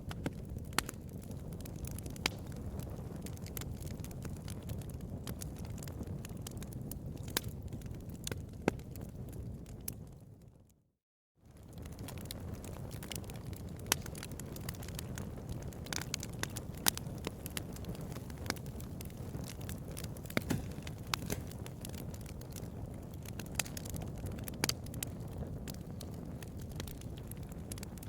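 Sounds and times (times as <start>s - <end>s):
bonfire crackling: 0.0s - 10.5s, 11.5s - 28.0s.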